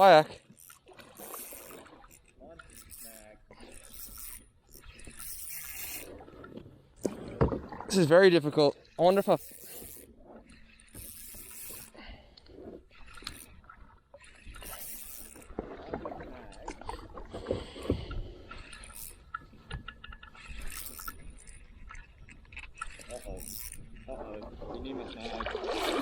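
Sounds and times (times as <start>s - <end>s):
water splashing: 0.0s - 26.0s.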